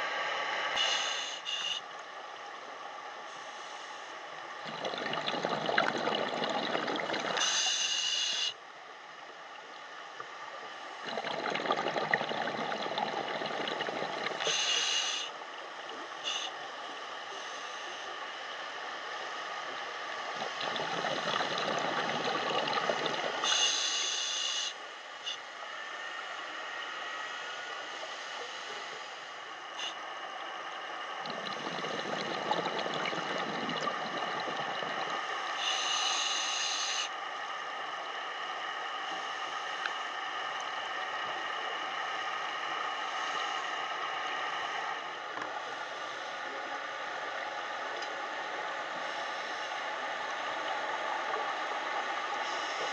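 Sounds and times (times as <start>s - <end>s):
underwater water hiss: 0.0s - 2.0s, 2.6s - 8.6s, 10.6s - 52.9s
faint constant whine: 0.0s - 52.9s.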